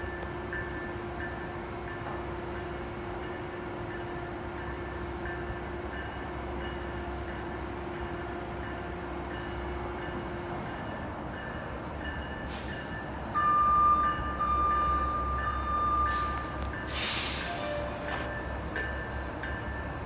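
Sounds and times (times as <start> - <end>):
train rumbling through station: 0.0 - 20.0.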